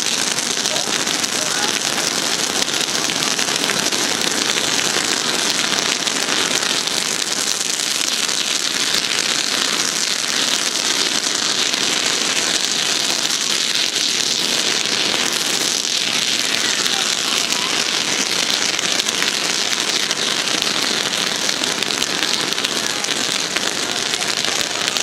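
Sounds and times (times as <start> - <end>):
firework fountains hissing sparks: 0.0 - 25.0.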